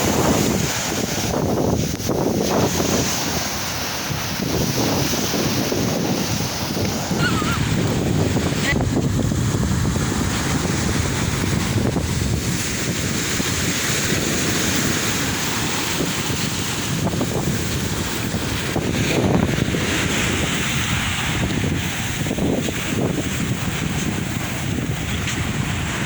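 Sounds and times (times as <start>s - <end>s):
sea waves washing ashore: 0.0s - 26.0s
wind buffeting microphone: 0.0s - 26.0s.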